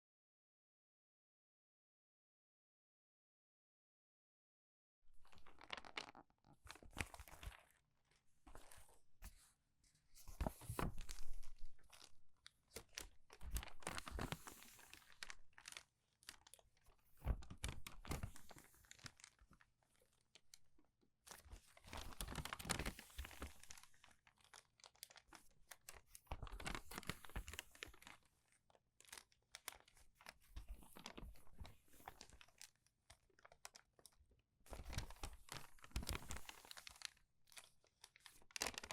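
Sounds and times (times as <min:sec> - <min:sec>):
crinkly paper pages turning: 0:05.1 - 0:38.9.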